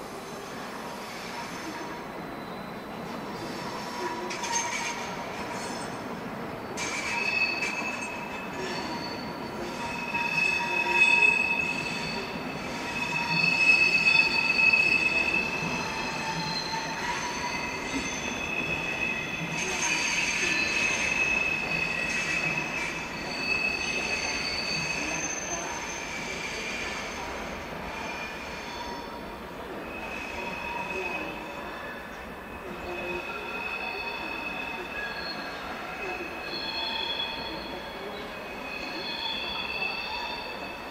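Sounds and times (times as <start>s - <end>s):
train wheels squealing: 0.1s - 40.9s.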